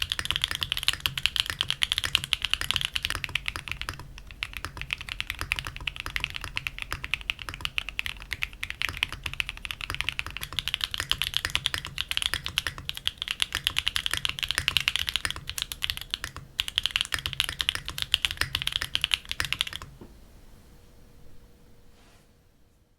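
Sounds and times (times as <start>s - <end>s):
fast mechanical keyboard typing: 0.0s - 20.0s.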